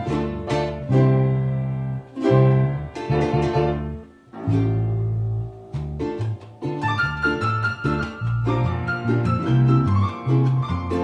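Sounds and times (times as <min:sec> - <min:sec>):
bass line: 0:00.0 - 0:11.0
plucked strings: 0:00.0 - 0:11.0.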